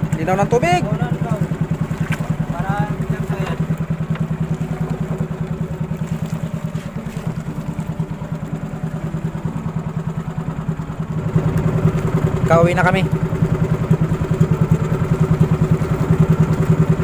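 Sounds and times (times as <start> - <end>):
boat engine chugging: 0.0 - 17.0.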